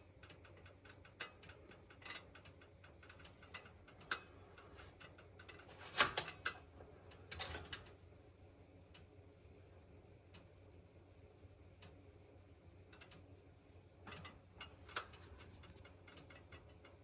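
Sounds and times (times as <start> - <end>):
gas oven igniter ticking: 0.0 - 10.7, 11.5 - 17.0.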